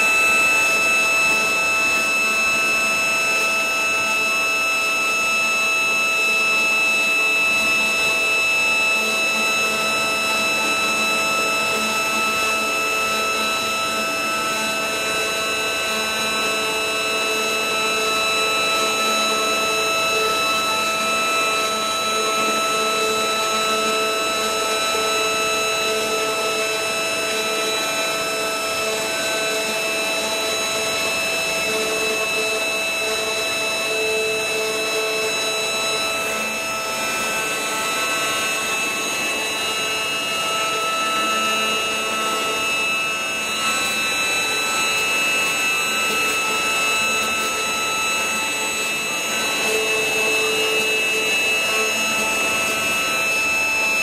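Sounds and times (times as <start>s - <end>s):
bit cutting wood: 0.0s - 54.0s
router spindle whining: 0.0s - 54.0s.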